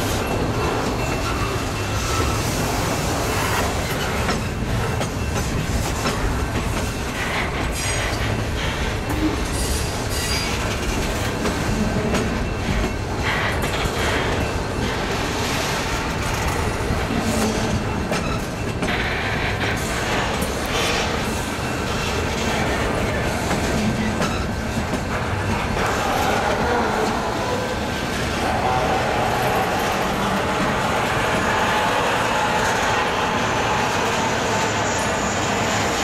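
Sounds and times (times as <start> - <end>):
train cars rolling past: 0.0 - 36.0.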